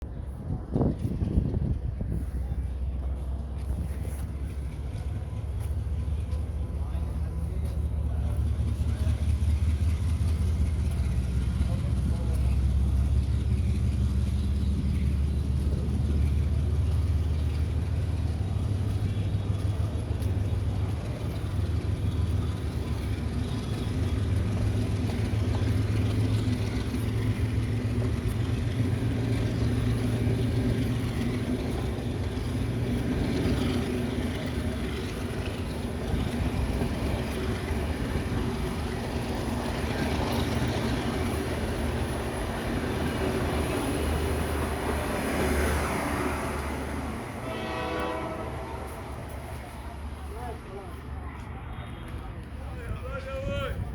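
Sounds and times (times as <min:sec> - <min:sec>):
passenger train rumbling: 0:00.0 - 0:53.9.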